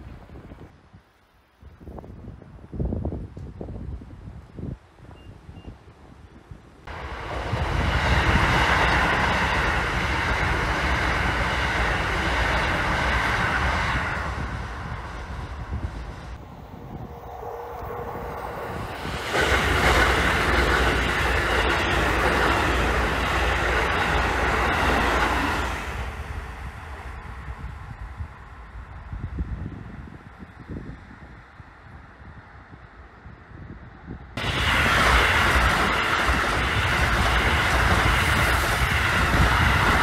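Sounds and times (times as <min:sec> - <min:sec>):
electric train passing: 0:06.8 - 0:40.0.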